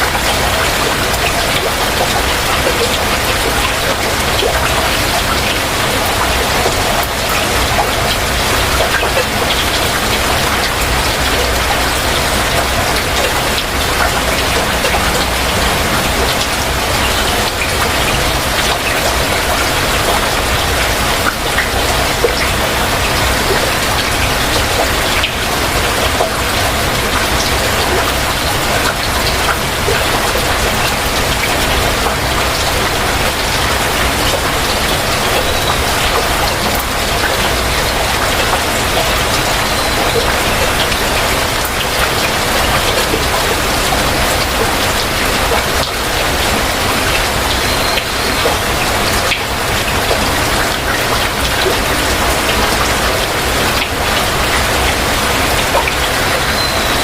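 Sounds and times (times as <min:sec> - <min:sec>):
heavy rain falling: 0:00.0 - 0:57.0
raindrops hitting surfaces: 0:00.0 - 0:57.0.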